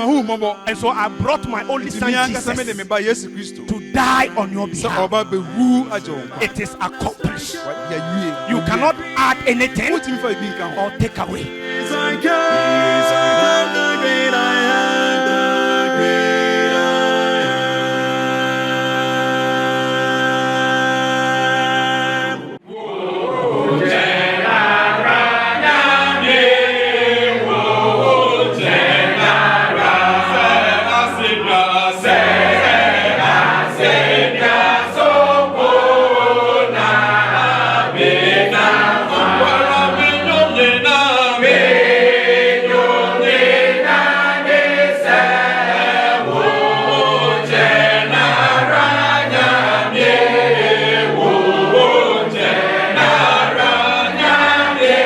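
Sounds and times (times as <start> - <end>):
mixed choir singing a hymn: 0.0 - 55.0.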